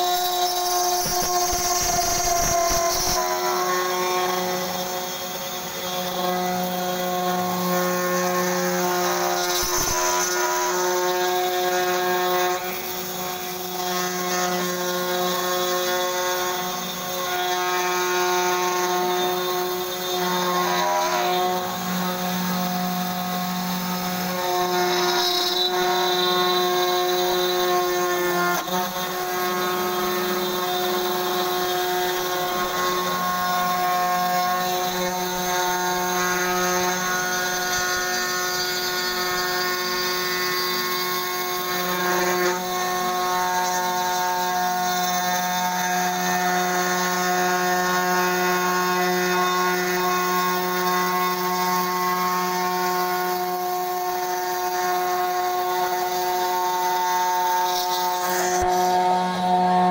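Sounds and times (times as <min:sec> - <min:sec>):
router machine whine: 0:00.0 - 0:59.9.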